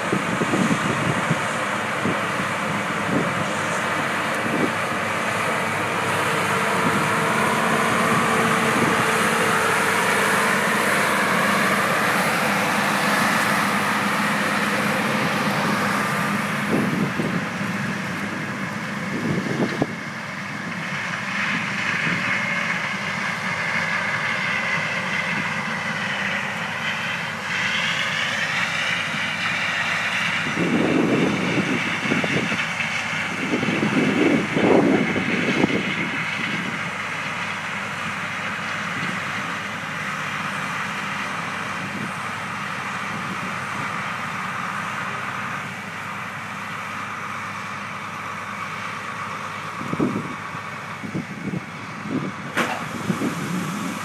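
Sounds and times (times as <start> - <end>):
high machine whine: 0.0 - 54.0
tractor diesel engine: 0.0 - 54.0.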